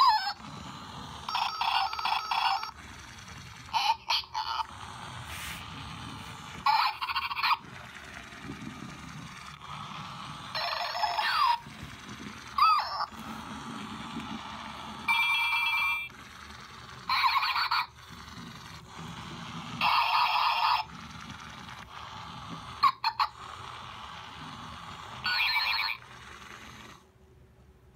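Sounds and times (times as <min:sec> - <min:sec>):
toy dog electronic sound effects: 0:00.0 - 0:04.8, 0:05.4 - 0:13.4, 0:14.1 - 0:22.0, 0:22.7 - 0:26.8
toy motor whirring: 0:00.0 - 0:27.1.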